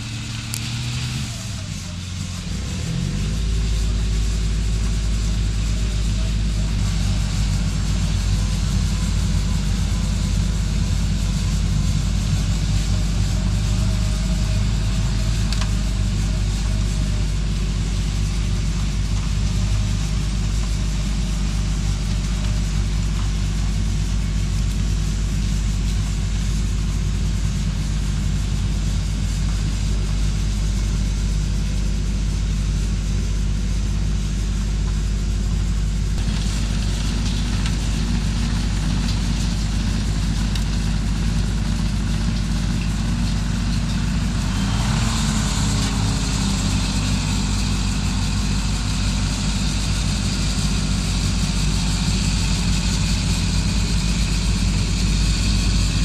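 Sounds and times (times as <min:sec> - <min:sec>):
bright hiss: 0:00.0 - 0:56.0
snowblower engine droning: 0:00.0 - 0:56.0.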